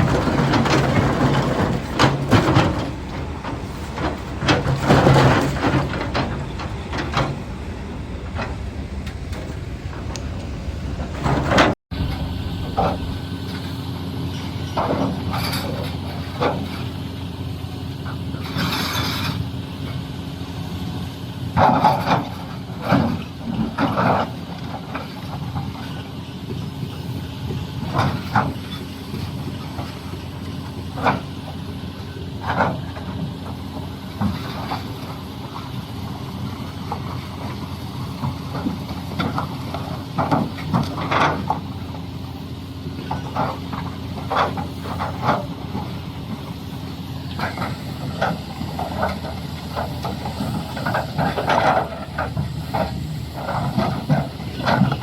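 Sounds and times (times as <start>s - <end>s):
bucket clanking and scraping rock: 0.0s - 17.1s, 27.8s - 55.0s
excavator diesel engine running: 0.0s - 55.0s.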